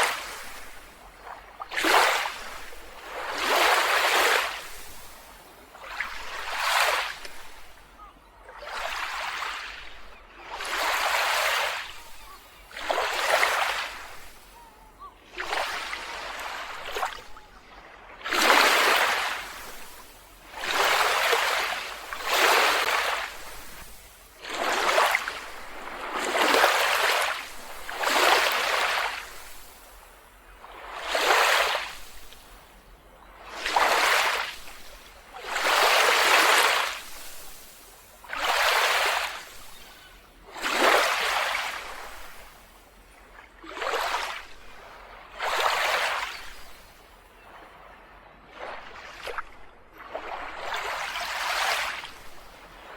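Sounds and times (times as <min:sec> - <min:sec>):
small waves washing onto beach: 0:00.0 - 0:52.9.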